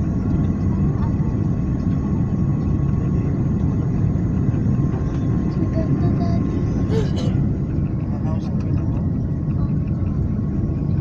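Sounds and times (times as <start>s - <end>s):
airliner cabin rumble: 0.0s - 11.0s
faint steady whine: 0.0s - 11.0s.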